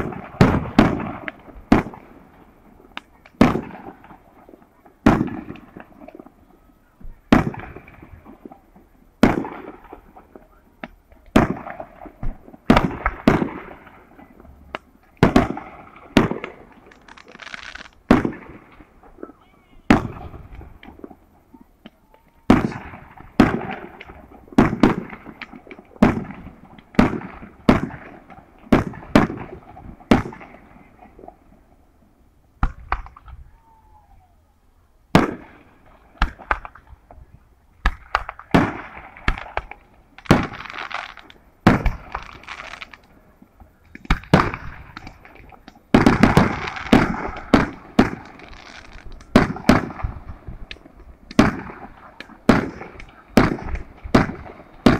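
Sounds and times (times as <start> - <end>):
fireworks exploding: 0.0 - 31.7, 32.6 - 34.0, 35.1 - 54.9.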